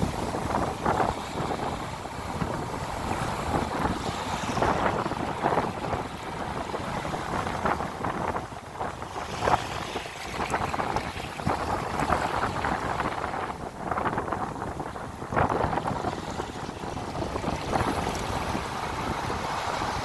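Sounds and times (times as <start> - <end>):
ocean waves: 0.0 - 20.0
wind buffeting microphone: 0.0 - 20.0.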